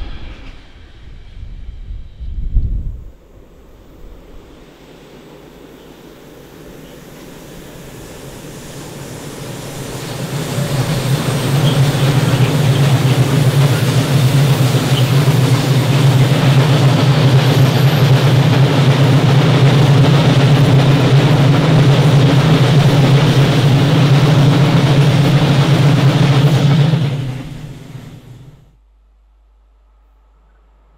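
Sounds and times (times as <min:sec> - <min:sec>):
freight train rumbling past: 0:00.0 - 0:28.8.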